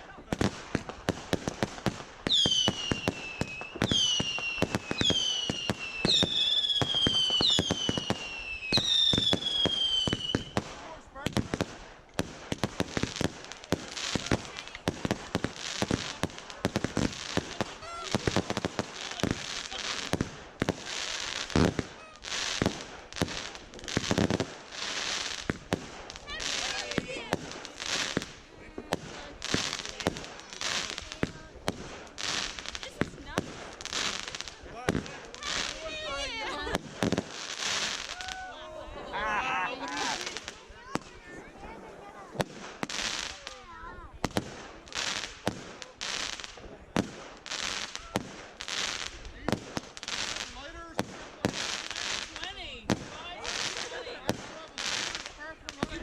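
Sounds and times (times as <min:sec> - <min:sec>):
fireworks popping and banging: 0:00.0 - 0:38.5, 0:39.7 - 0:56.0
whistling fireworks: 0:00.1 - 0:38.6, 0:39.7 - 0:41.5, 0:44.2 - 0:56.0.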